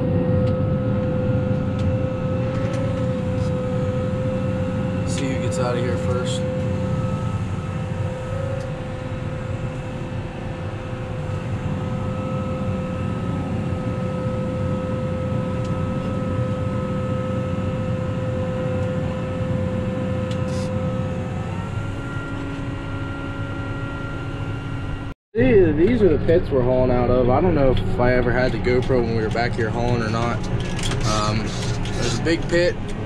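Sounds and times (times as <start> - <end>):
constant whine: 0.0 - 33.0
tractor engine droning: 0.0 - 33.0.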